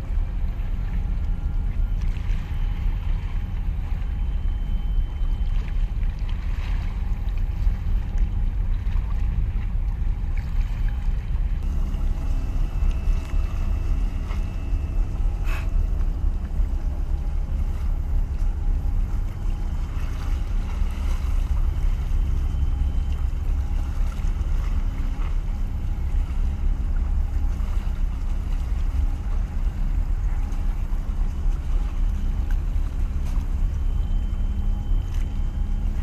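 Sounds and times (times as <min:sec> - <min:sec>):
ship engines rumbling: 0:00.0 - 0:36.0.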